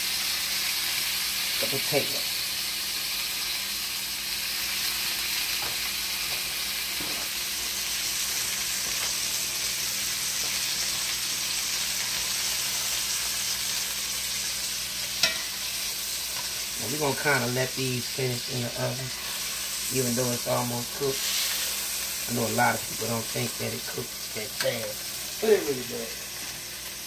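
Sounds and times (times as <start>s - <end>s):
chicken sizzling in skillet: 0.0s - 27.0s.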